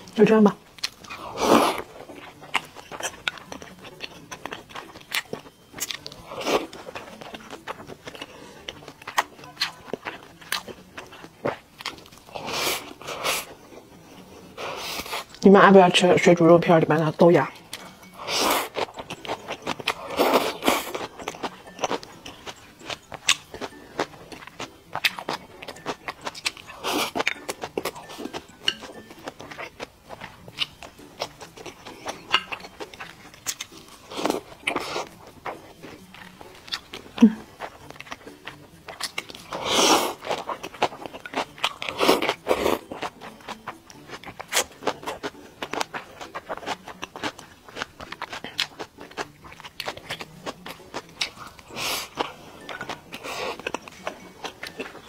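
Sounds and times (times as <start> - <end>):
chewing: 0.0 - 15.6, 17.0 - 55.0.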